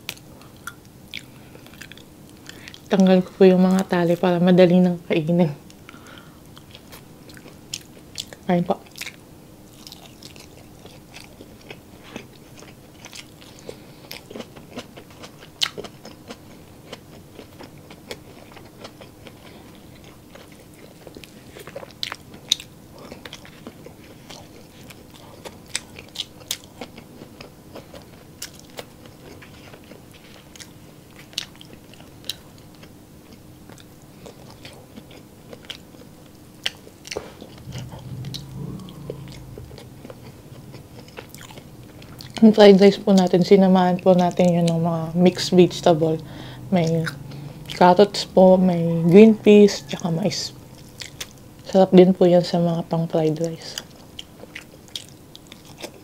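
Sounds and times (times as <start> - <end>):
chewing food: 0.0 - 4.0, 5.7 - 51.8, 52.5 - 56.0.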